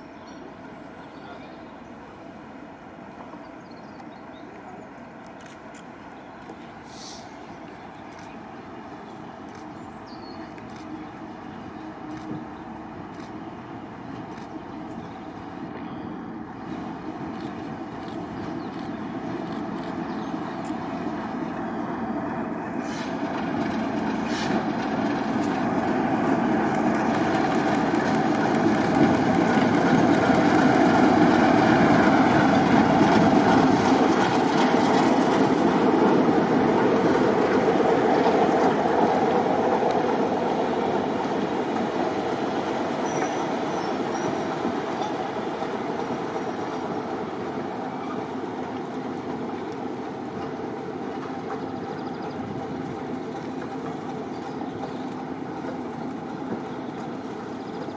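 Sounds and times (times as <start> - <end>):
train wheels rumbling and clattering: 3.1 - 57.9.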